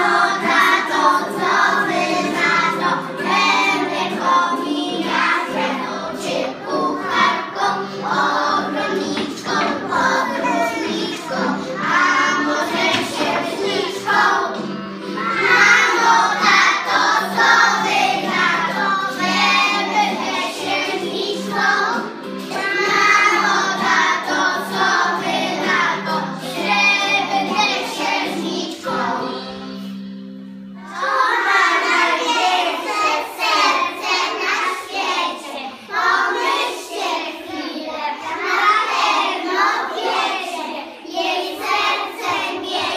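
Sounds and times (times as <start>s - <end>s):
instrumental accompaniment: 0.0s - 35.2s
children singing in unison: 0.0s - 42.9s.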